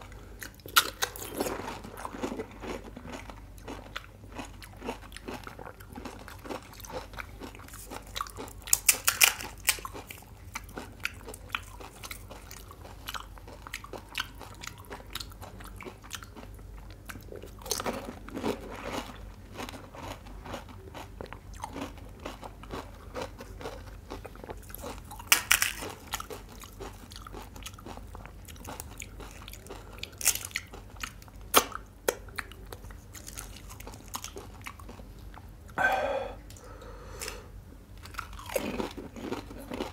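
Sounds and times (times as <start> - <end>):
crunching and chewing crisp food: 0.0 - 39.9.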